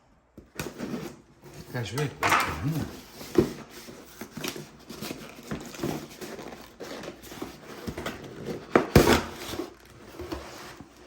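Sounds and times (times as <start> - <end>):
wrapping paper rustling: 0.8 - 11.0.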